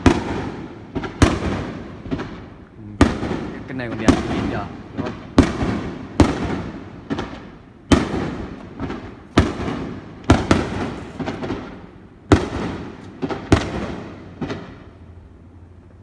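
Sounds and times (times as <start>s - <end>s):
firework shells bursting: 0.0s - 14.9s.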